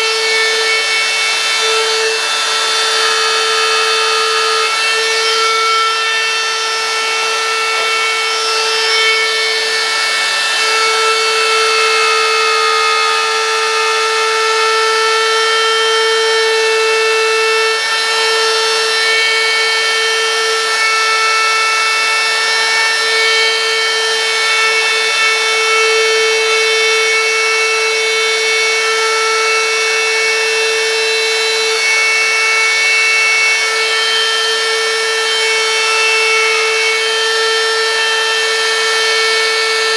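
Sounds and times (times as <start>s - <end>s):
router bit rasping wood: 0.0s - 39.9s
router motor whine: 0.0s - 39.9s.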